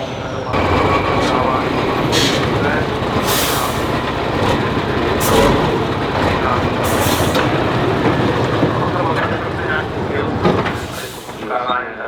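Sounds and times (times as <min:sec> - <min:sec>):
truck diesel engine running hard: 0:00.5 - 0:12.0.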